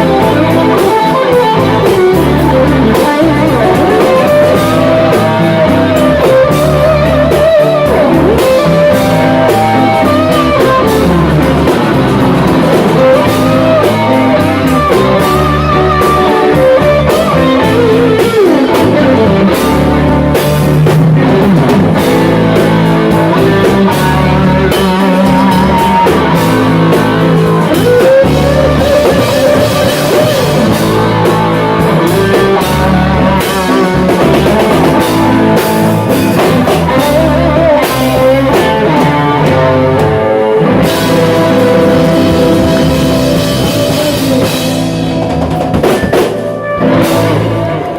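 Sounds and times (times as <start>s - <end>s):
bending guitar notes: 0.0s - 47.9s
live rock band playing: 0.0s - 47.9s.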